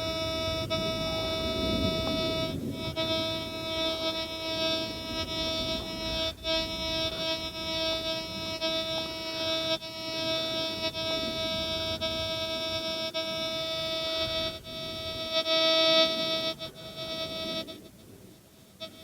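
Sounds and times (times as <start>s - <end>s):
metal detector electronic tone: 0.0s - 17.9s, 18.8s - 19.0s.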